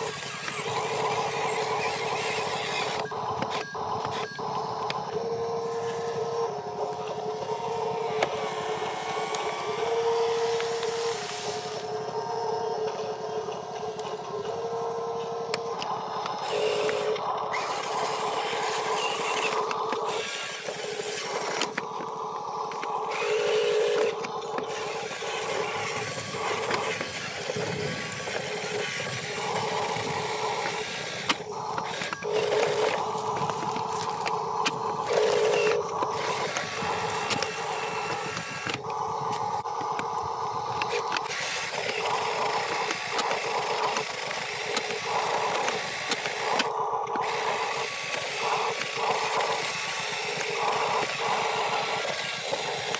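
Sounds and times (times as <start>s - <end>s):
toy electric motors whining: 0.0s - 52.9s.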